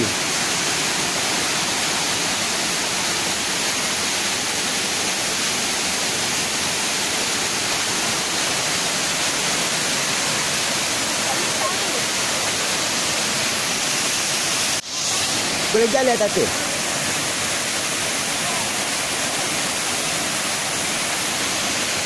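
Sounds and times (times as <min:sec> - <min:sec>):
waterfall cascading: 0:00.0 - 0:22.0.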